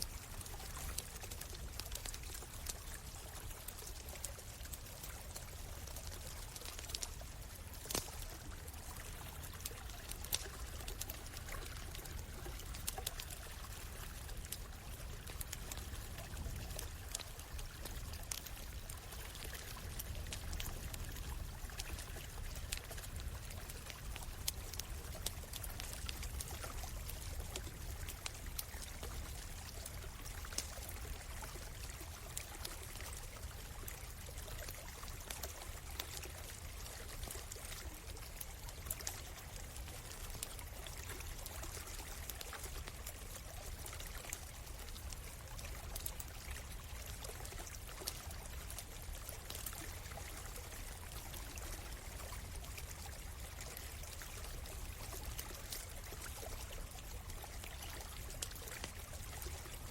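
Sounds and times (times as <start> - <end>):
stream running: 0.0 - 59.9
campfire crackling and popping: 0.1 - 59.9.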